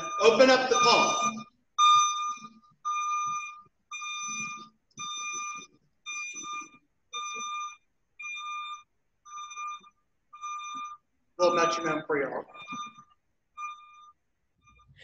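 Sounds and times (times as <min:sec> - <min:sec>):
metronome beeping: 0:00.0 - 0:07.6, 0:09.3 - 0:15.0.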